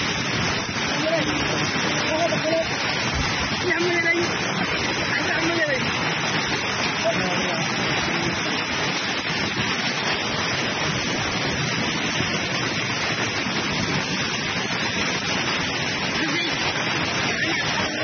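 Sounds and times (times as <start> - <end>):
floodwater rushing: 0.0 - 18.0
heavy rain: 0.0 - 18.0.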